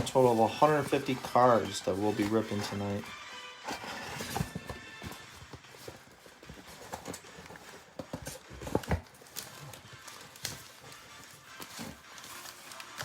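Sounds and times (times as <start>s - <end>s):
card boxes being handled and opened: 0.0s - 13.0s.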